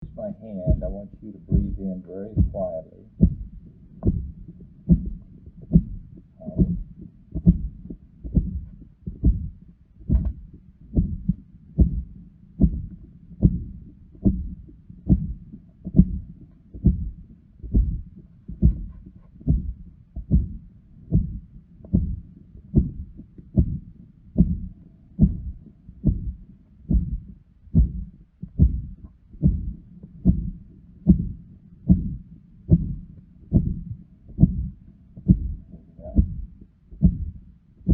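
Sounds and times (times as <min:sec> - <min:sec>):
heart murmur: 0:00.0 - 0:37.9
heartbeat through stethoscope: 0:00.0 - 0:37.9.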